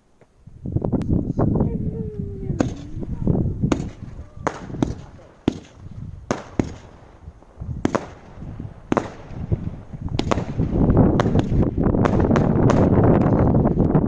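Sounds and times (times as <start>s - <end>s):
fireworks bangs: 2.4s - 14.0s
fireworks barrage: 2.4s - 14.0s.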